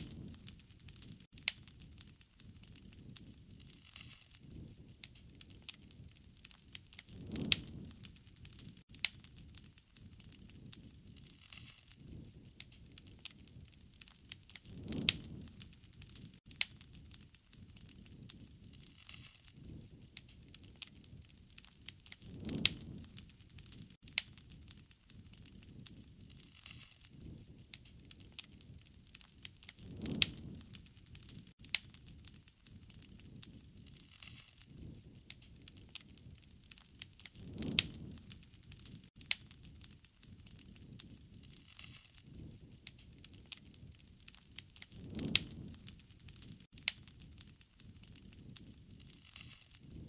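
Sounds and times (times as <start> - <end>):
wood fire crackling and popping: 0.0 - 50.0.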